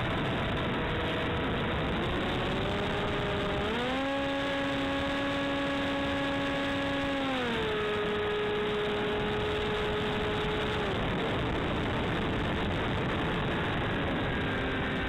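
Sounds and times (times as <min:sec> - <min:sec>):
electric motor and propeller whine: 0:00.0 - 0:15.0
wind rushing over microphone: 0:00.0 - 0:15.0.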